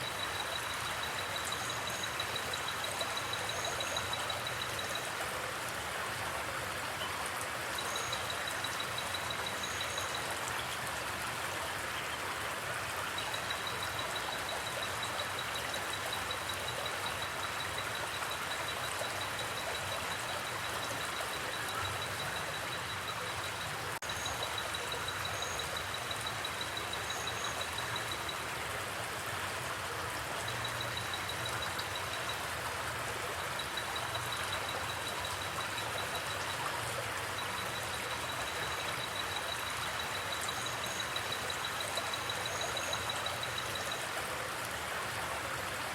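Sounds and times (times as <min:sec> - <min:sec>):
creek water flowing: 0:00.0 - 0:45.9.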